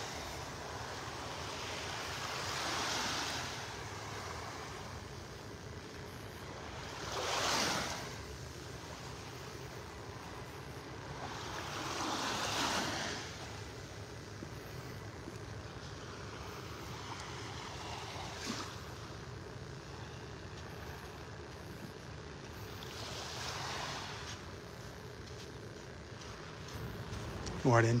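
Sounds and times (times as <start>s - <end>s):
small waves lapping: 0.0s - 28.0s
steady background hiss: 0.0s - 28.0s.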